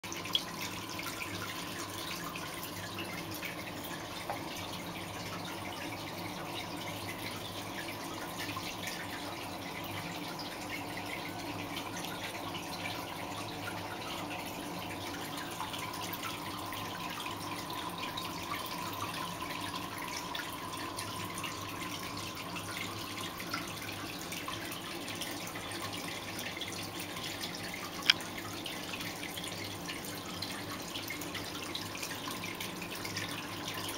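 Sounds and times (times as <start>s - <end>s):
water trickling and dripping: 0.1s - 33.9s.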